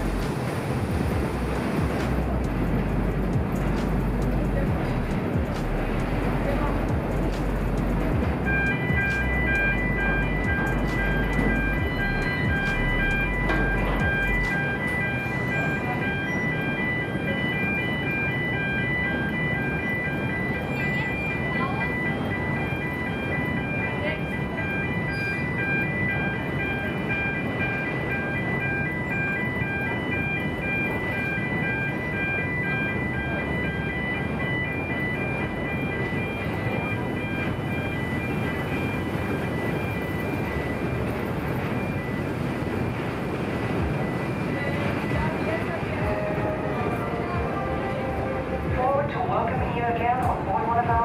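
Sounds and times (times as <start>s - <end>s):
electronic warning alarm beeping: 0.0s - 51.0s
ferry rushing rumble: 0.0s - 51.0s
ship engine noise: 0.0s - 51.0s.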